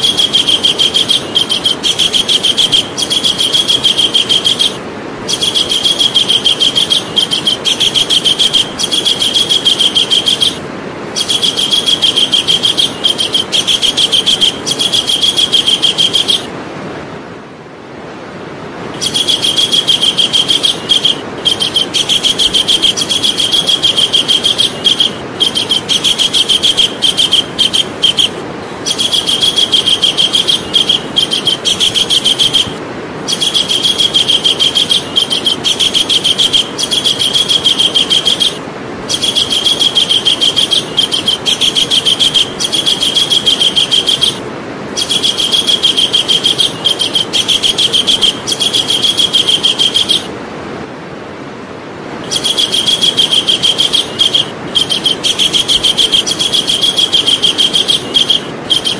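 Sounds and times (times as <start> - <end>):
kingfisher calling: 0.0 - 16.5, 19.0 - 50.3, 52.2 - 58.9.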